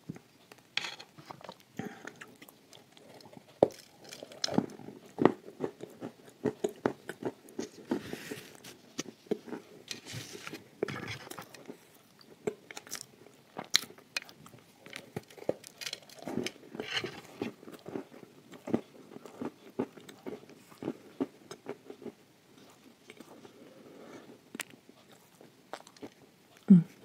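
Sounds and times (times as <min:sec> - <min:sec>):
crunchy chewing: 0:01.2 - 0:27.0.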